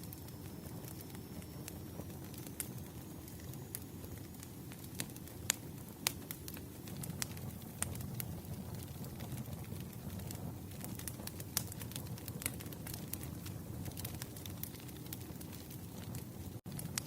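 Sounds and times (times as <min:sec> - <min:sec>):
low background rumble: 0:00.0 - 0:17.0
wood fire crackling: 0:00.0 - 0:17.0.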